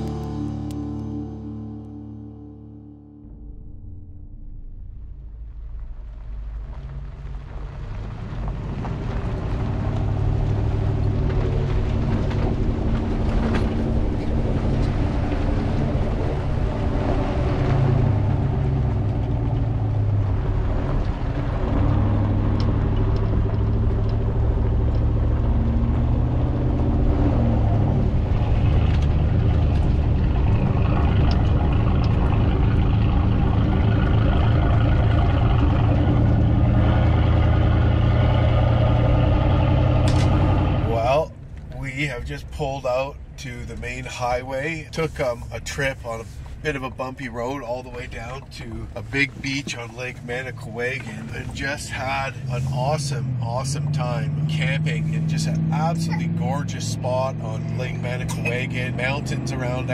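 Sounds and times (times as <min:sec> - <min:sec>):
pickup truck engine hum: 0:00.0 - 0:59.9.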